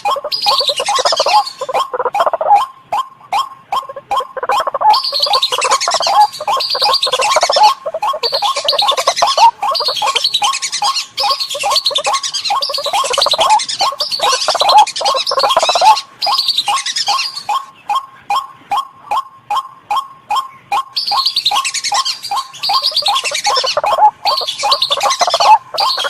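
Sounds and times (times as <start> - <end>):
recorded bird calls chattering: 0.0 - 26.0.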